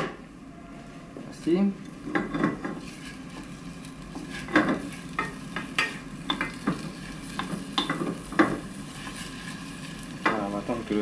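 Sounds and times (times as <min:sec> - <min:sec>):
onions sizzling: 0:01.9 - 0:11.0.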